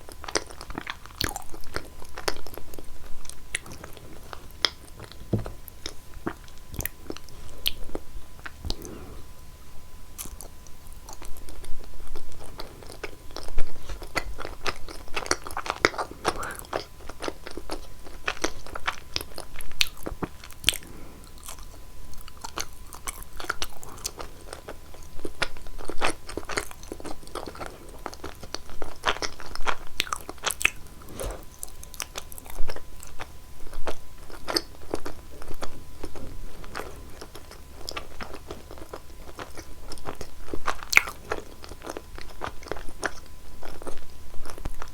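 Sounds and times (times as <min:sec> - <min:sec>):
chewing cheese with crunchy clicks: 0:00.0 - 0:08.9, 0:10.2 - 0:44.9.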